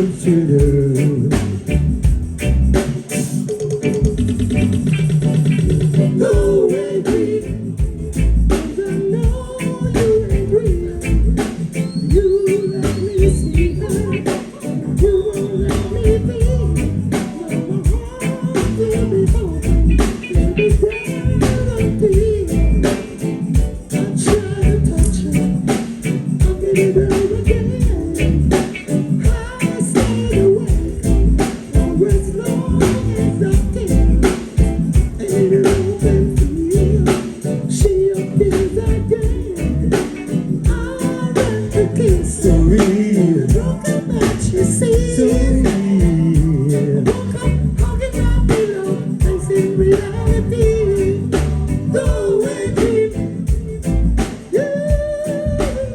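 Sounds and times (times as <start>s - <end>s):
live reggae band playing: 0.0s - 55.9s.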